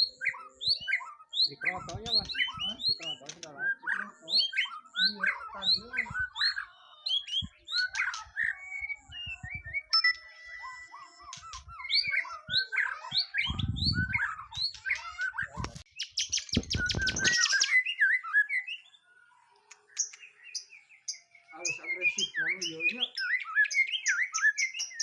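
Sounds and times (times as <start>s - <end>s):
bird singing whistles and chirps: 0.0s - 25.0s.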